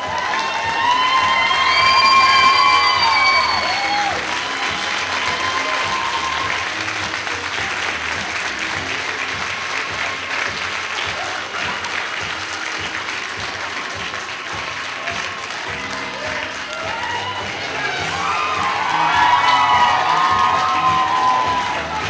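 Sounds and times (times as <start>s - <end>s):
audience applause: 0.0s - 22.0s
cast clapping along: 0.0s - 22.0s.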